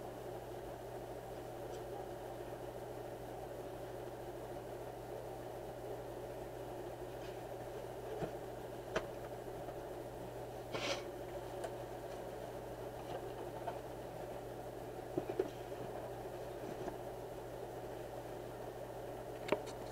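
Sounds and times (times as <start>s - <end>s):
steady background hum: 0.0s - 19.9s.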